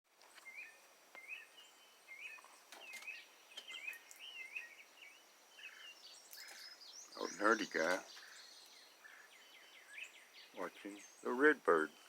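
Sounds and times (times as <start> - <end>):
bird singing whistled notes: 0.4 - 12.0.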